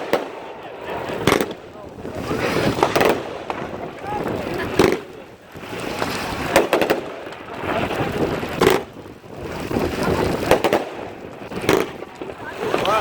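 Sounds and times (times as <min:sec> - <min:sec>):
distant fireworks bangs: 0:00.0 - 0:13.0.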